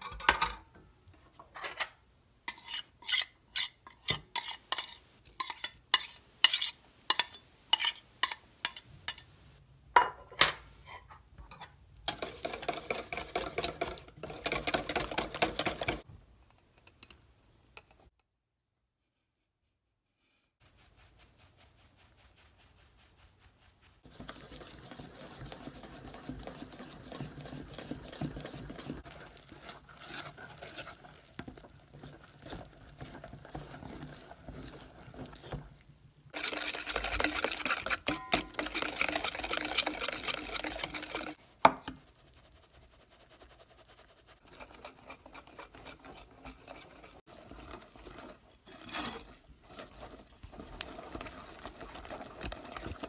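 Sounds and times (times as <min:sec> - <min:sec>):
batter stirred in steel bowl: 0:02.4 - 0:09.4, 0:11.6 - 0:16.1, 0:20.6 - 0:53.0.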